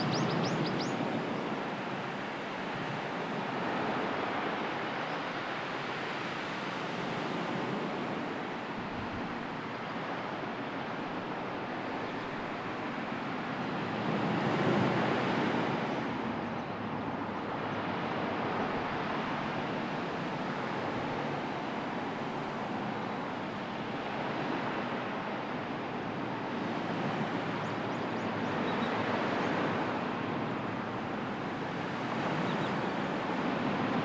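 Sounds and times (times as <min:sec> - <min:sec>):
surf washing ashore: 0:00.0 - 0:34.0.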